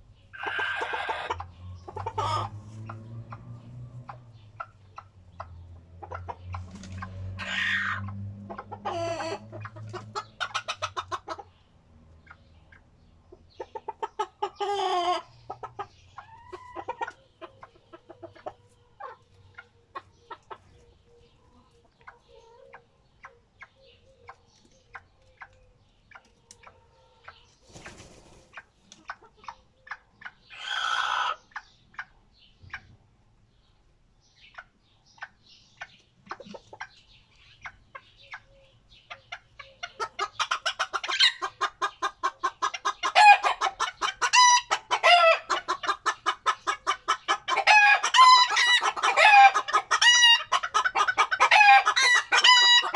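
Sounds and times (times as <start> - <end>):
chickens clucking: 0.0 - 52.9.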